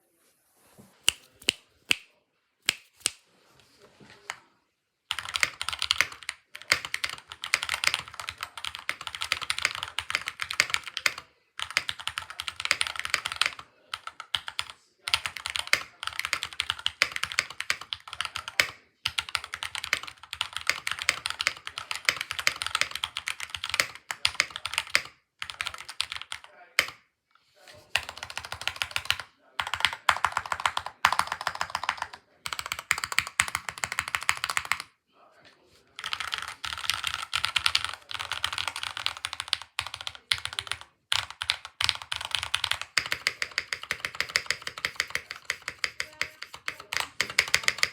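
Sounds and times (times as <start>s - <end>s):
mechanical keyboard typing: 5.1s - 27.0s, 28.0s - 34.9s, 36.0s - 47.9s.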